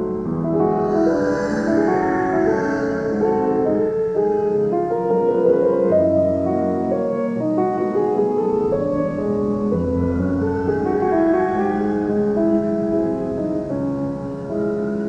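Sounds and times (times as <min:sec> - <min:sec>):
piano soundtrack music: 0:00.0 - 0:15.0.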